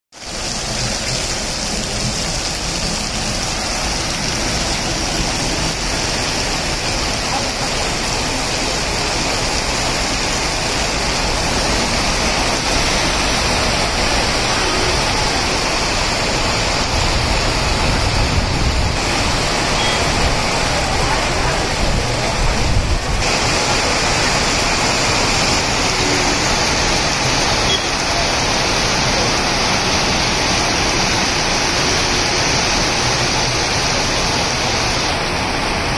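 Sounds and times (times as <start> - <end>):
heavy rain on pavement and roof: 0.1 - 35.9
runoff spilling from roof: 0.2 - 35.9.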